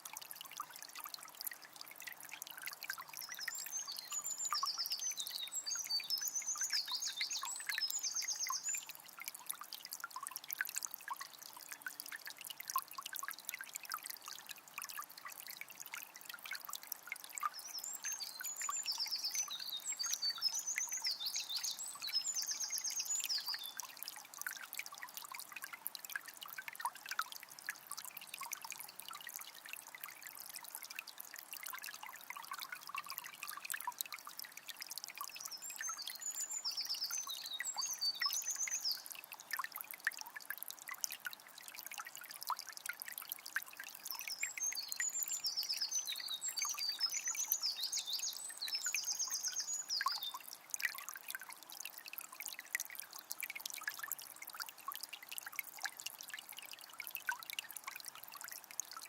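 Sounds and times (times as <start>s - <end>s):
spring water trickling: 0.0s - 59.0s.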